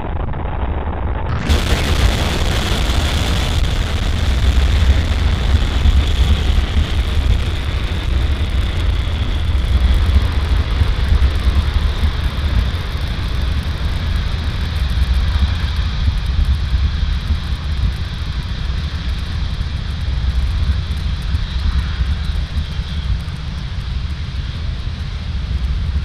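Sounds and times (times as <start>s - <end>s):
rocket engines rumbling: 0.0s - 26.0s.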